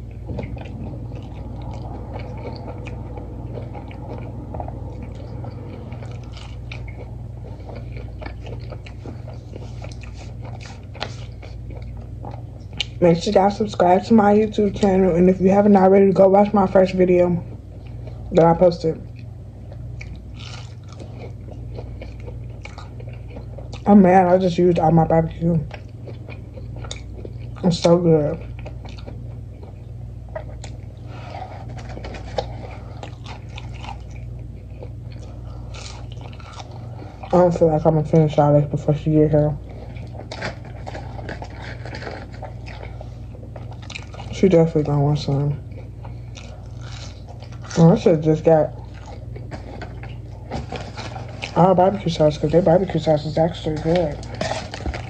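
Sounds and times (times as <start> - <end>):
person chewing crunchy fried food: 0.0 - 15.7, 17.4 - 37.6, 39.6 - 44.5, 45.4 - 52.6, 53.3 - 55.0
steady low hum: 0.0 - 55.0.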